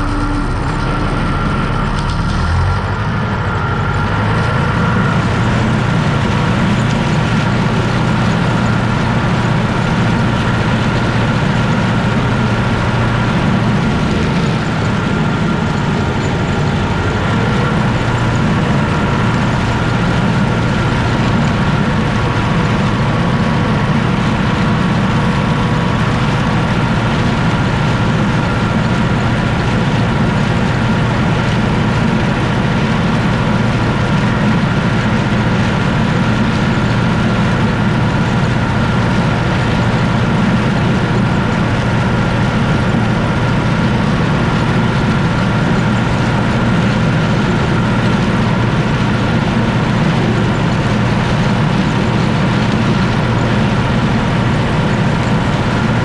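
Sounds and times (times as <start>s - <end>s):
high mechanical whine: 0.0s - 56.0s
tractor diesel engine running: 0.0s - 56.0s.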